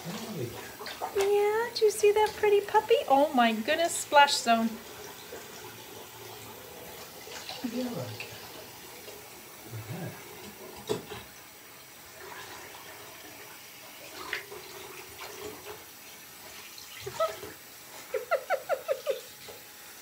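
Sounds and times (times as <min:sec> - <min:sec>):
water trickling in a sink: 0:00.0 - 0:20.0.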